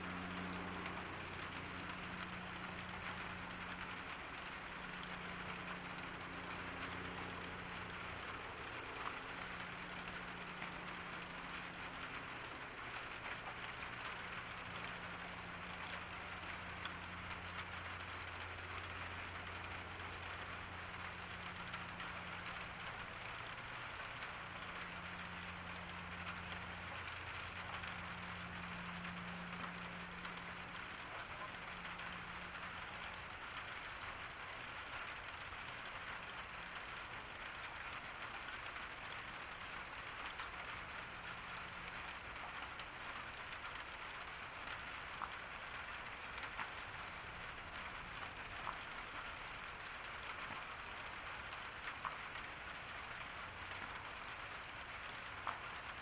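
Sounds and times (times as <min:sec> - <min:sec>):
rain hissing: 0:00.0 - 0:56.0
raindrops ticking: 0:00.0 - 0:56.0.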